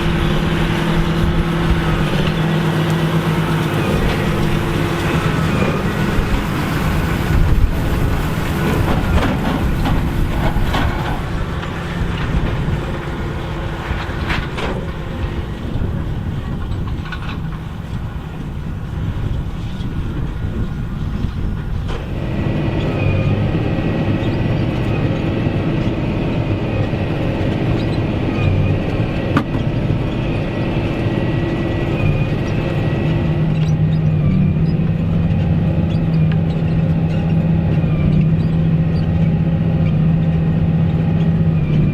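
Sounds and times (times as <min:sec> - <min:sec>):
steady high whine: 0:00.0 - 0:36.7
diesel tractor engine under load: 0:00.0 - 0:41.9.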